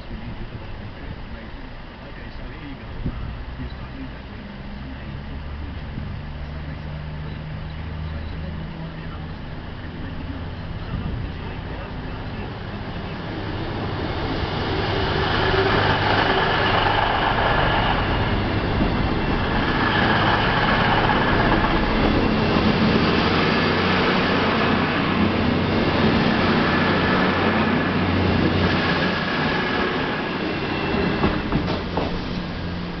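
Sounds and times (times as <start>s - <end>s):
train passing at speed: 0.0s - 33.0s.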